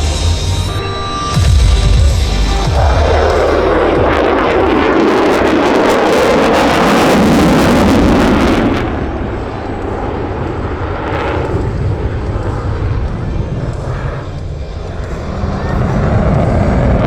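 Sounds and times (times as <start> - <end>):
crackling jet roar: 0.0 - 17.0.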